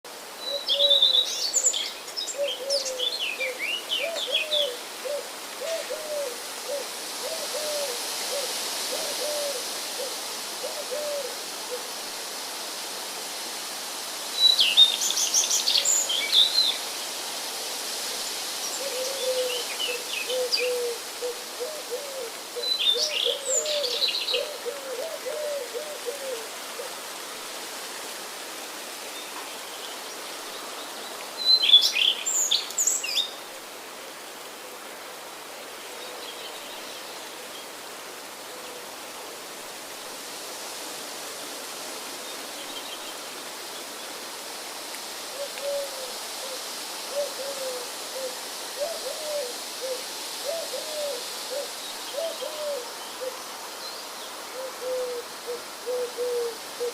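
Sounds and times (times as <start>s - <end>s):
faint steady hiss: 0.1s - 56.9s.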